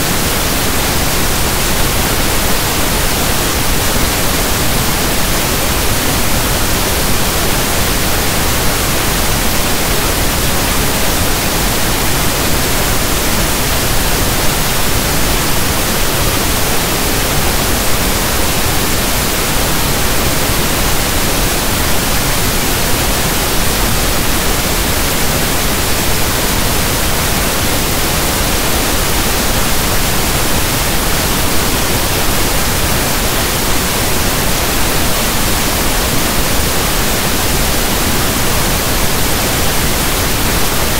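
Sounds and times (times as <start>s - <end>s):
pink noise static: 0.0s - 40.9s.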